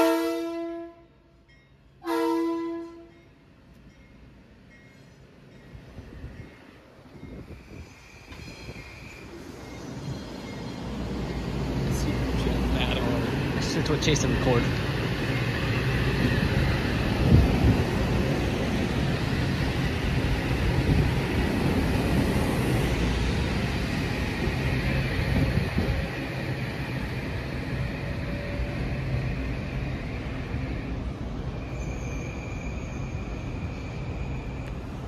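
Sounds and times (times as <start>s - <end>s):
train wheels rumbling on rails: 3.6s - 35.0s.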